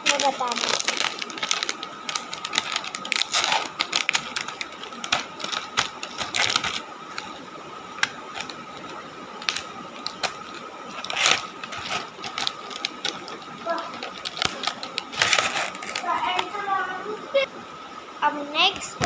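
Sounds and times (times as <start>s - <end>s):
packaging wrappers crinkling: 0.0s - 16.6s.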